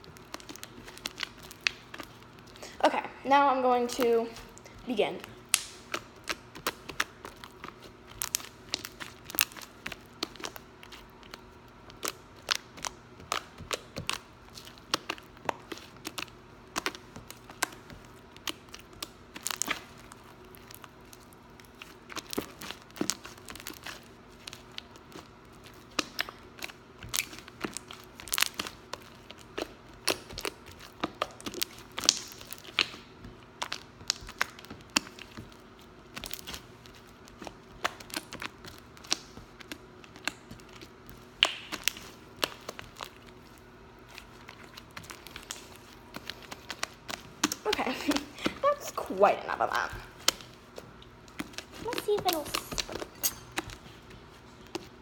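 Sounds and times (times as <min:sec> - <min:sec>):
hands squishing slime: 0:00.0 - 0:55.0.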